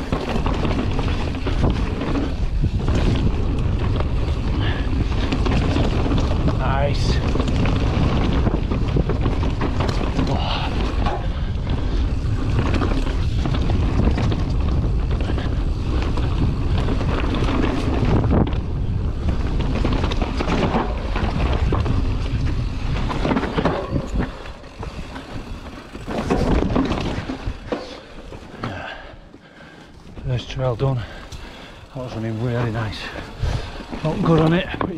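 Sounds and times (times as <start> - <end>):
wind buffeting microphone: 0.0 - 29.0, 30.0 - 34.9
bike rattling and knocking: 0.0 - 34.9
bike tyres on dirt trail: 0.0 - 34.9.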